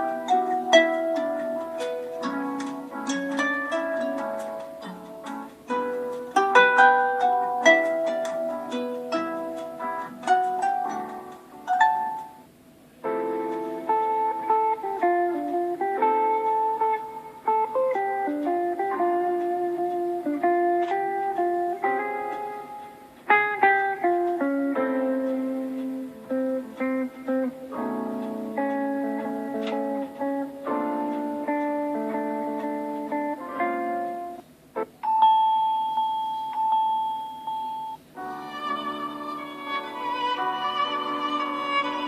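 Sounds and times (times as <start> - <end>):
plucked ringtone melody: 0.0 - 42.0.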